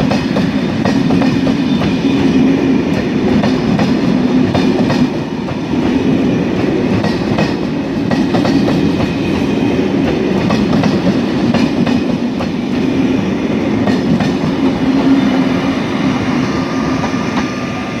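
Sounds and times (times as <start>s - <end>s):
train coaches rumbling past: 0.0s - 18.0s.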